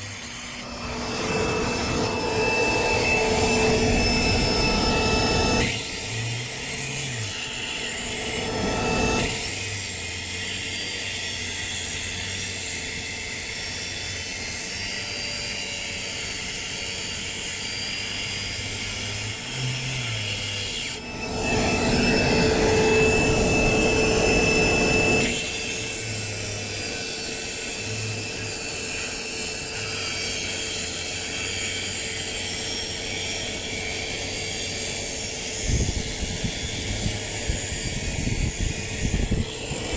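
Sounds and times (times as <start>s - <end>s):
circular saw cutting concrete: 0.0s - 39.9s.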